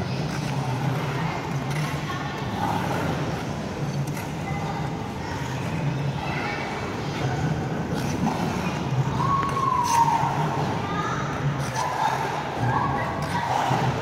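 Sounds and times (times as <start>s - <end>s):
murmur of distant voices: 0.0s - 14.0s.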